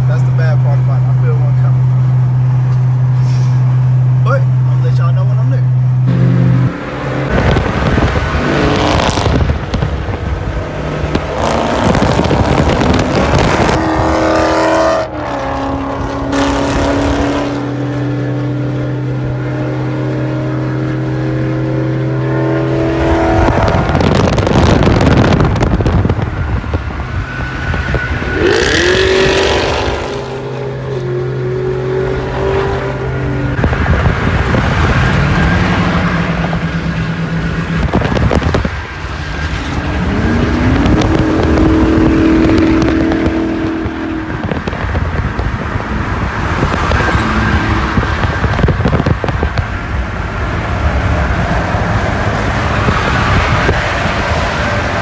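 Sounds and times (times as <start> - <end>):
car engine under throttle: 0.0 - 55.0
road and tyre noise: 0.0 - 55.0.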